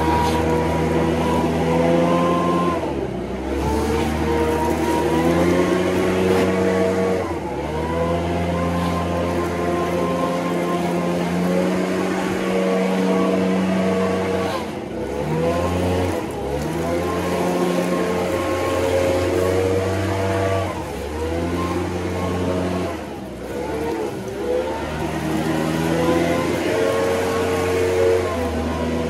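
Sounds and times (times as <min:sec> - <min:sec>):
leaf blower engine revving: 0:00.0 - 0:29.0.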